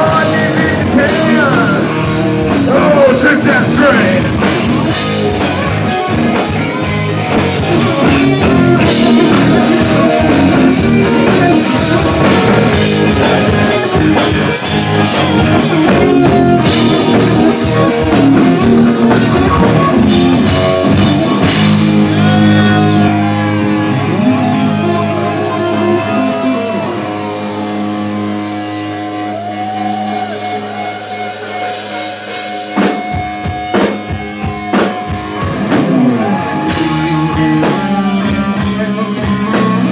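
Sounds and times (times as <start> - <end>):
distorted electric guitars: 0.0 - 39.9
drum kit: 0.0 - 39.9
live rock band playing: 0.0 - 39.9.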